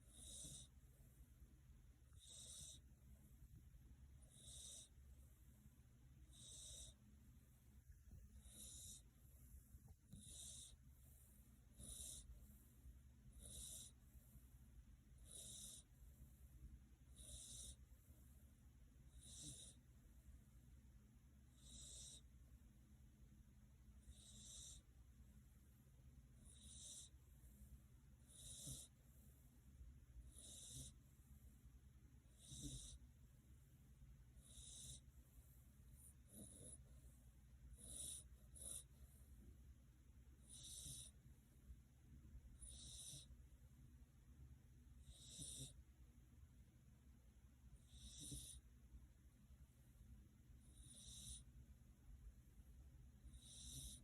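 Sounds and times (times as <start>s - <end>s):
cat snoring softly: 0.0s - 20.6s, 21.3s - 22.6s, 23.7s - 41.4s, 42.3s - 43.5s, 44.8s - 46.0s, 47.6s - 48.8s, 50.4s - 51.7s, 52.8s - 54.0s.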